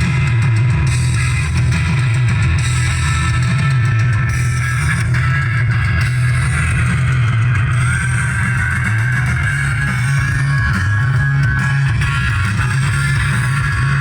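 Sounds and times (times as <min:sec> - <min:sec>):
loud music through sound system: 0:00.0 - 0:14.0.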